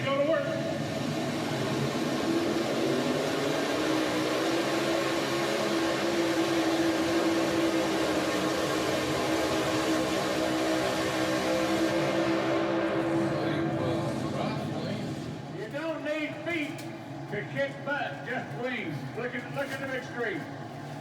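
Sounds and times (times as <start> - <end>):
tractor engines at full power: 0.0 - 21.0.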